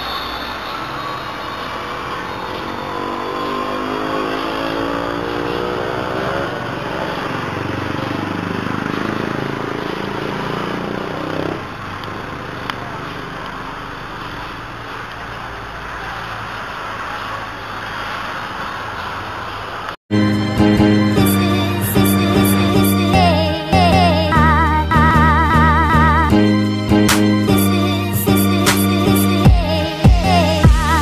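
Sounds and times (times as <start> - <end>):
second engine sound: 0.0 - 31.0
vehicle engine accelerating: 0.0 - 31.0.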